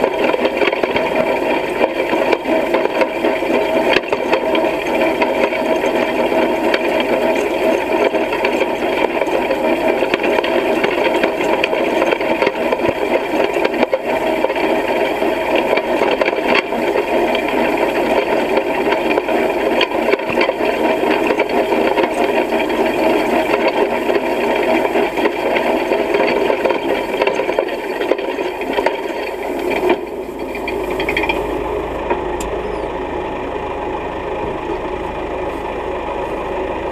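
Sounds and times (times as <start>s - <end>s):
hay rake metal rattle: 0.0s - 32.9s
low engine hum: 0.0s - 36.9s.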